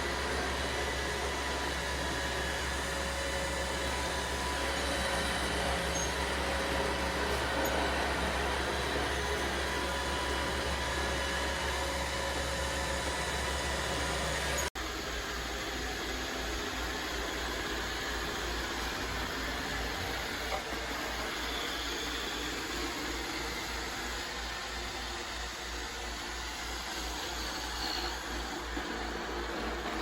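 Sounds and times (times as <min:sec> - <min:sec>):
robot vacuum whirring: 0:00.0 - 0:30.0.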